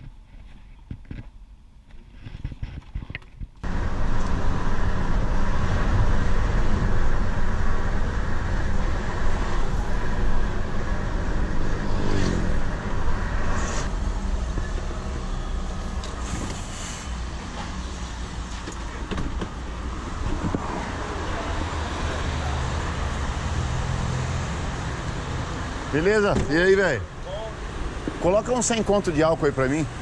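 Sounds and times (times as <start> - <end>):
car engine and road noise: 2.8 - 30.0.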